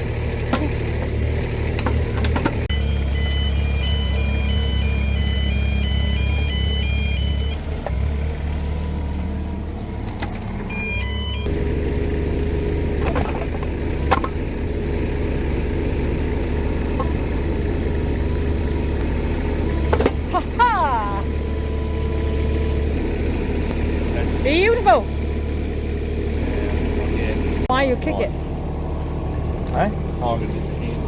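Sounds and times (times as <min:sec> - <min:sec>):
excavator engine running: 0:00.0 - 0:31.0.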